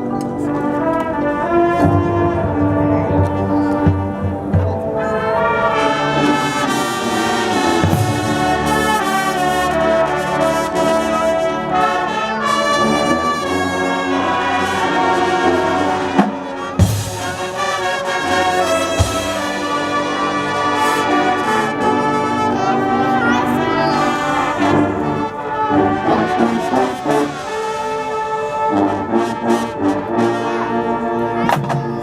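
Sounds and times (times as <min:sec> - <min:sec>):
marching band brass chords: 0:00.0 - 0:32.0.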